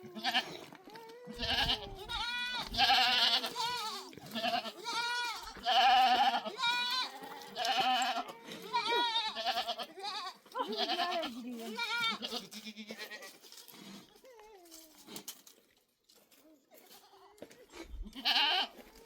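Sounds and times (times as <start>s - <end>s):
goats bleating: 0.0s - 14.8s, 16.7s - 19.0s.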